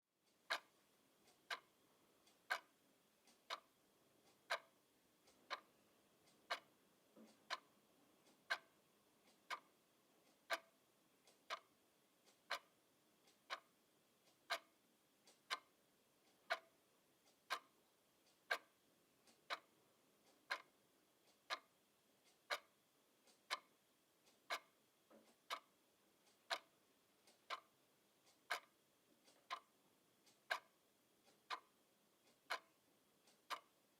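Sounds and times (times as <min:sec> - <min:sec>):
wall clock ticking: 0:00.2 - 0:33.9.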